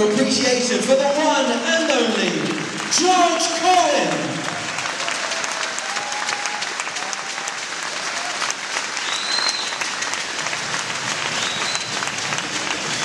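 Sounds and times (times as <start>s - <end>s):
crowd applauding: 1.7s - 13.0s.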